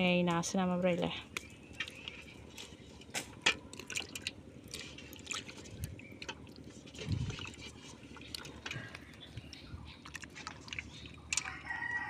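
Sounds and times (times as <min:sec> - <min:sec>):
water dripping and splashing: 0:01.4 - 0:11.7.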